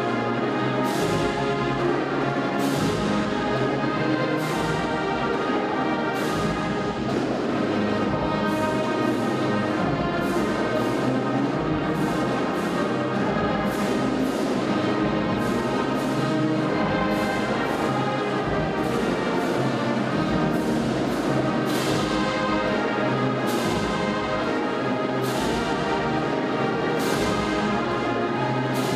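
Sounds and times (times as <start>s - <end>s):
brass chords: 0.0s - 28.9s.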